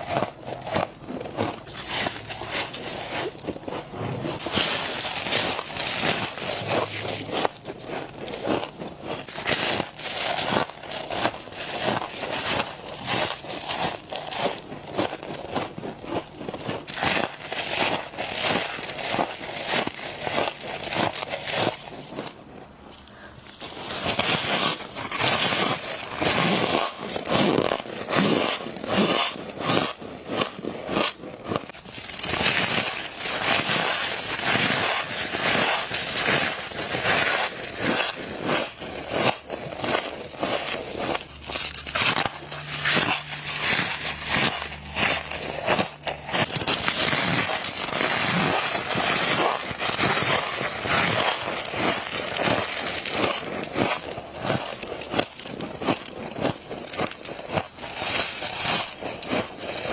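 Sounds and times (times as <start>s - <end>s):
chewing crunchy frost: 0.0s - 59.9s.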